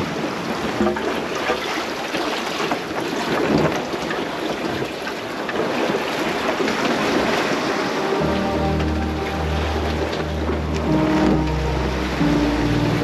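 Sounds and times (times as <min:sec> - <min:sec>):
water splashing along boat hull: 0:00.0 - 0:13.0.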